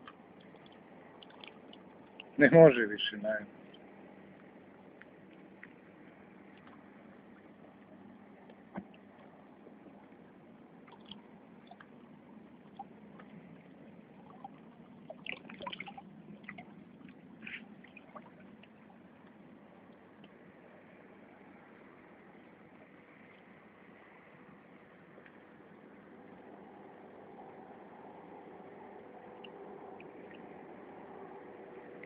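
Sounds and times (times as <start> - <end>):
steady low hiss: 0.0 - 32.0.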